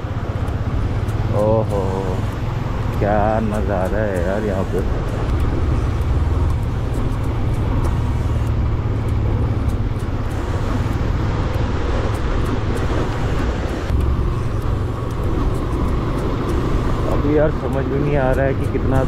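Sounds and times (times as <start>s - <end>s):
motorcycle engine running: 0.0s - 19.0s
wind rumble: 0.0s - 19.0s.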